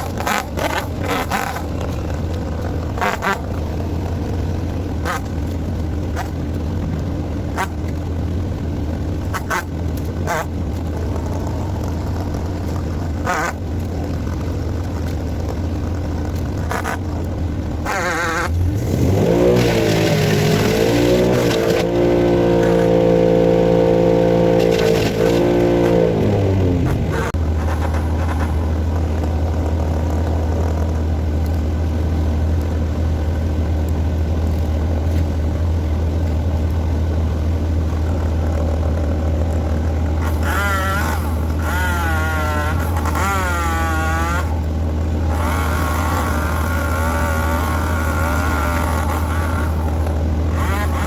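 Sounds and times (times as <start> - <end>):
heavy equipment engine running: 0.0 - 51.0.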